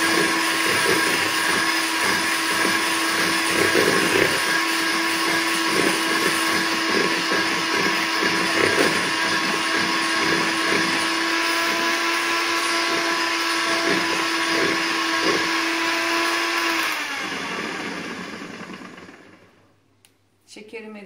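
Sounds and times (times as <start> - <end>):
electric hand mixer whining: 0.0 - 19.6.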